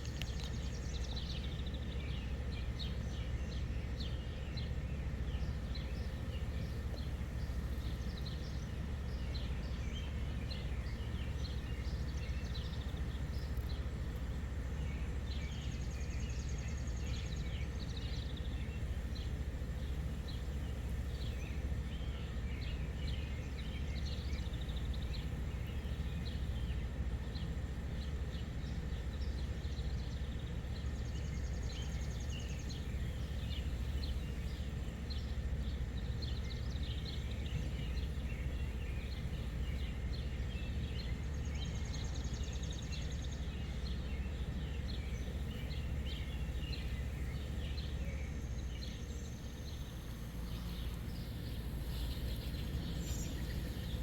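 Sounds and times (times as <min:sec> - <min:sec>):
low outdoor rumble: 0:00.0 - 0:54.0
small birds chirping: 0:00.0 - 0:54.0.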